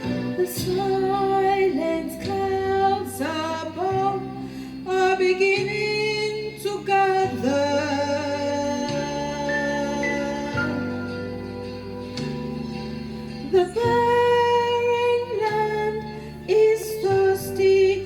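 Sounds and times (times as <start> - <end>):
woman singing: 0.0 - 12.1, 13.4 - 18.0
instrumental backing with bass: 0.0 - 18.0.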